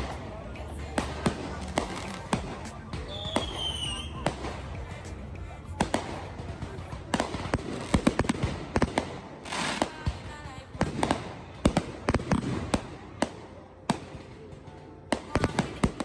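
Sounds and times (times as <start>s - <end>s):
fireworks bangs and pops: 0.0s - 16.0s
fireworks crackle: 0.0s - 16.0s.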